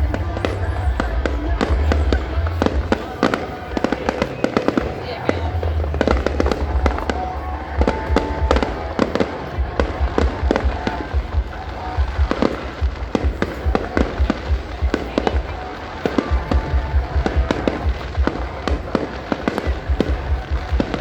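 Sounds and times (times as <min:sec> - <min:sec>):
fireworks bangs and booms: 0:00.0 - 0:21.0.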